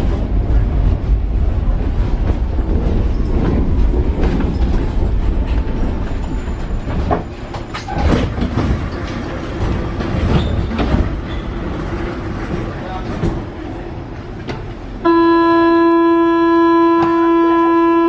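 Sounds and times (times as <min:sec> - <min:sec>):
wheels clacking over rail joints: 0:00.0 - 0:14.8
train rumbling on rails: 0:00.0 - 0:18.0.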